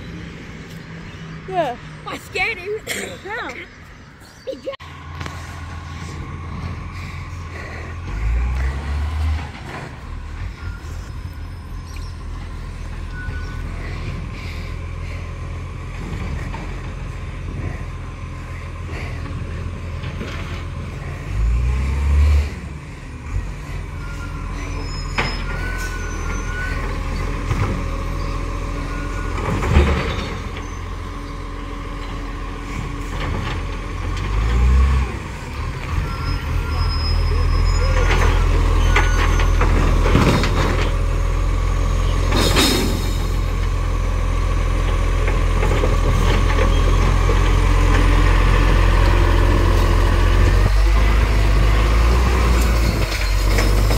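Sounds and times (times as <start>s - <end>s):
garbage truck engine running: 4.8s - 53.9s.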